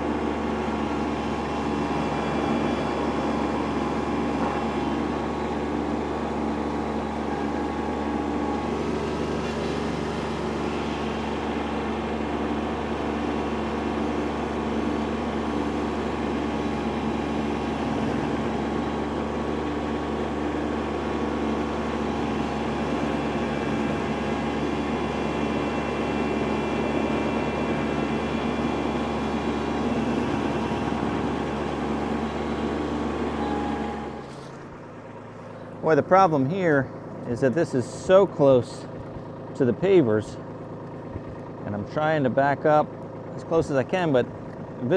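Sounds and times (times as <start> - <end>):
stump grinder chewing wood: 0.0 - 44.9
tractor diesel engine running: 0.0 - 44.9.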